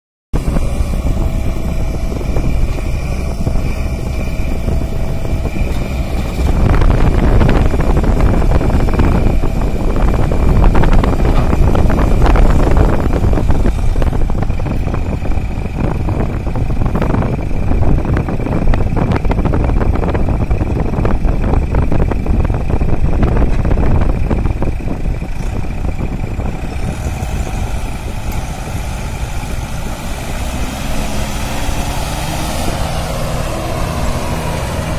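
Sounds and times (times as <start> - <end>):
tractor diesel engine straining: 0.4 - 34.9.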